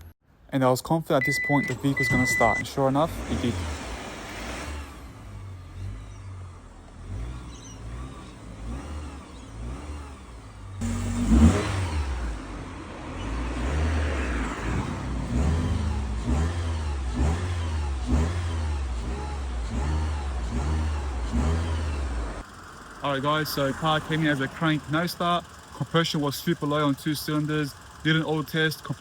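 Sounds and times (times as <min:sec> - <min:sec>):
car engine starting and revving: 0:01.2 - 0:29.0.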